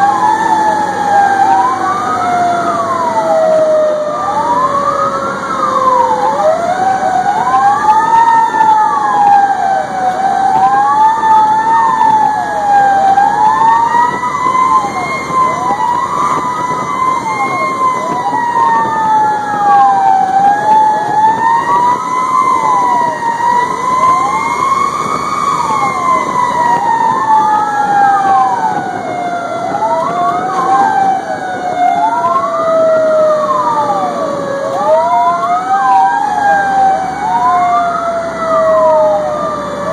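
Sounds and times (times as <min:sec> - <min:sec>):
fire engine sirens wailing: 0:00.0 - 0:39.9.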